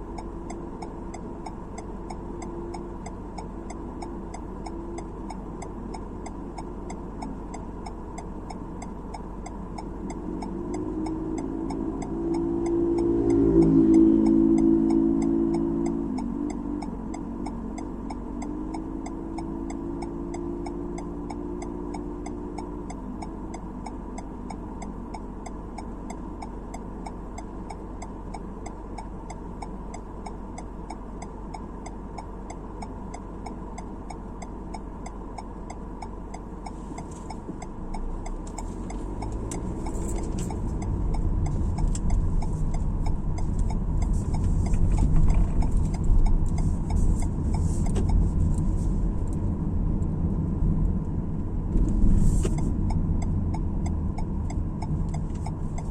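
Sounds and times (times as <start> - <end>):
car cabin hum: 0.0 - 55.9
regular ticking: 0.0 - 55.9
road and tyre rumble: 0.0 - 55.9.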